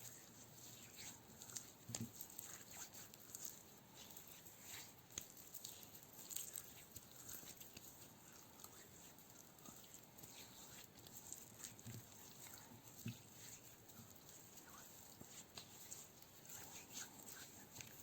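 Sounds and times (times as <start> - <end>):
fingertips tapping and scratching: 0.0 - 18.0.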